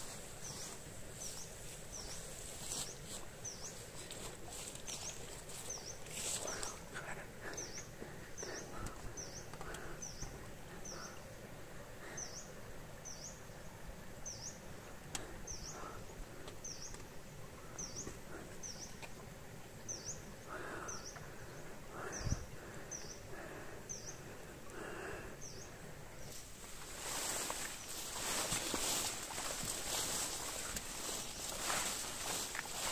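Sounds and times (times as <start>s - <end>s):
outdoor background noise: 0.0s - 32.9s.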